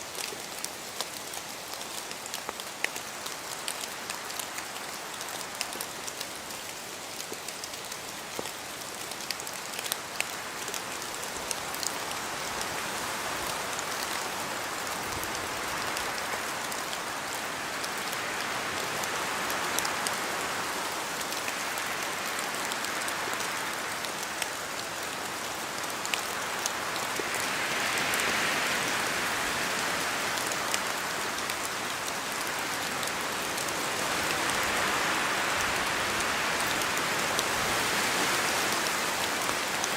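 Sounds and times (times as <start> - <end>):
rain falling through trees: 0.0 - 39.9
wind: 0.0 - 39.9.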